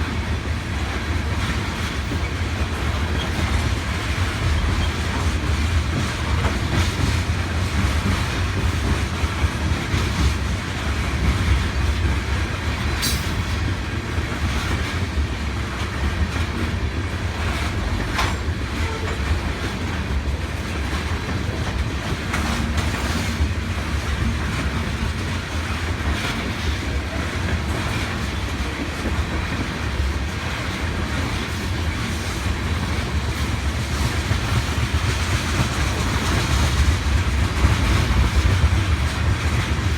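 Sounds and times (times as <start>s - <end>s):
clickety-clack at rail joints: 0.0s - 39.9s
train wheels rumbling on rails: 0.0s - 39.9s.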